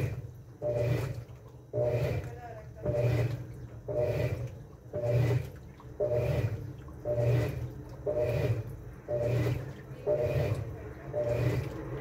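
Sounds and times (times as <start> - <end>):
washing machine motor whir: 0.0 - 12.0
water sloshing through clothes: 0.0 - 12.0.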